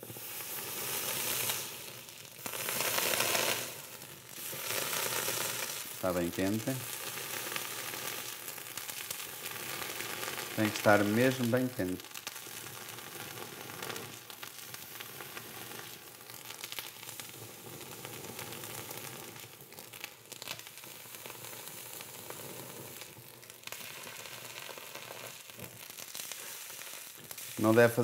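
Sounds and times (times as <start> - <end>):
sugar sizzling under hot iron: 0.0 - 28.0.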